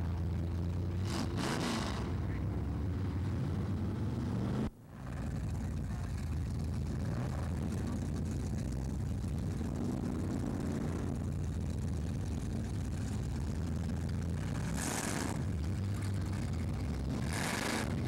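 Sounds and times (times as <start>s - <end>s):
race car engines rumbling: 0.0s - 18.0s.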